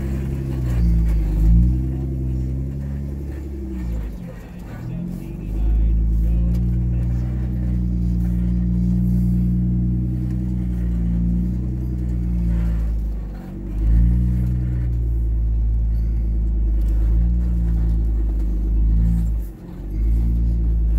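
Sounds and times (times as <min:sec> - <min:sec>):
vehicle engine crawling under load: 0:00.0 - 0:20.9.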